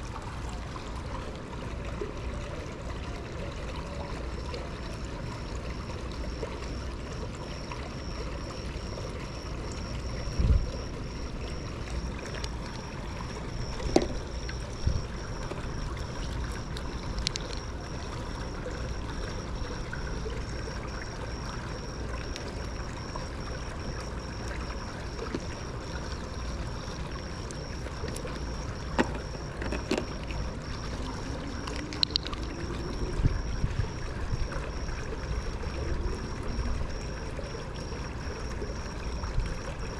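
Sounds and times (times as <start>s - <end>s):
faint high whine: 0.0s - 39.9s
rushing water: 0.0s - 39.9s.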